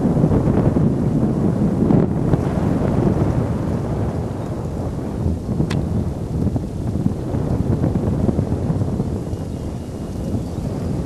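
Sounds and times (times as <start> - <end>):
wind blowing over microphone: 0.0 - 11.0.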